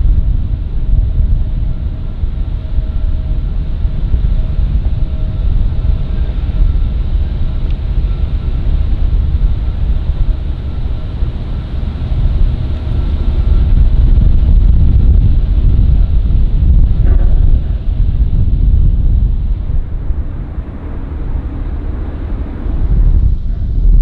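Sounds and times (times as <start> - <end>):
faint engine whine: 0.0 - 24.0
jet engines rumbling: 0.0 - 24.0.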